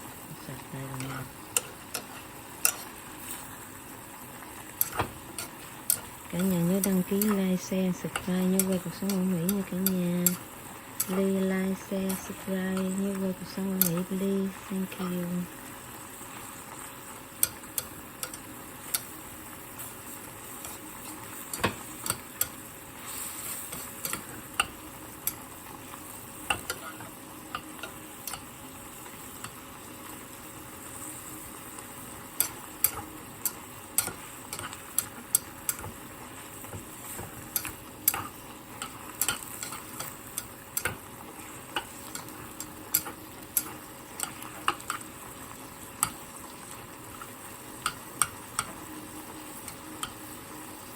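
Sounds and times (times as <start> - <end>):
thick sauce sizzling in a pot: 0.0 - 50.9.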